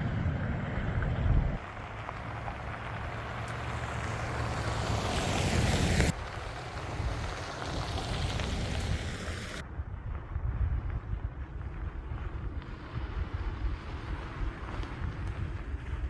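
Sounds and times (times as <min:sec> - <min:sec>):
low rumble: 0:00.0 - 0:16.0
wind buffeting microphone: 0:00.0 - 0:16.0
strong wind gusting: 0:02.5 - 0:16.0.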